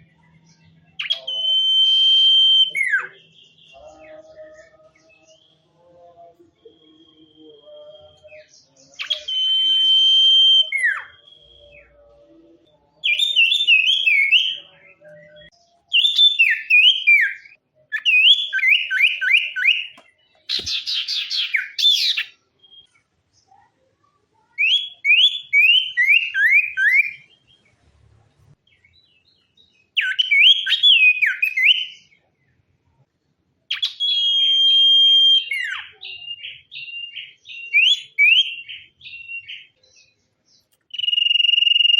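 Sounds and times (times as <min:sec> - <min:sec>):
songbird whistling song: 0:00.6 - 0:23.7, 0:24.4 - 0:27.6, 0:28.7 - 0:32.2, 0:33.7 - 0:41.9.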